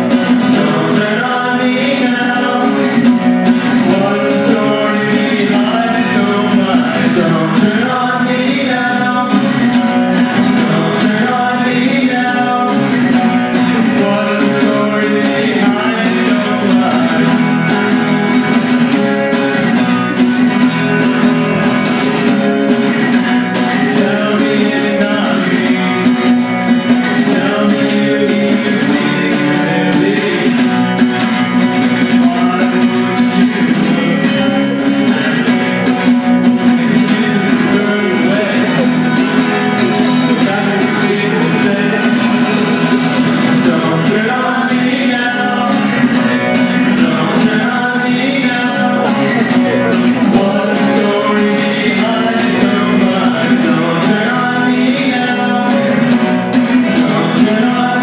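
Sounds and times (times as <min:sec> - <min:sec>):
acoustic guitars: 0:00.0 - 0:58.0
man singing: 0:00.0 - 0:58.0.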